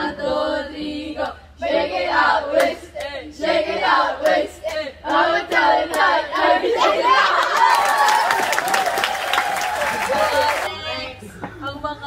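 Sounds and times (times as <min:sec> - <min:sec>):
young women singing together: 0:00.0 - 0:08.3, 0:10.0 - 0:12.0.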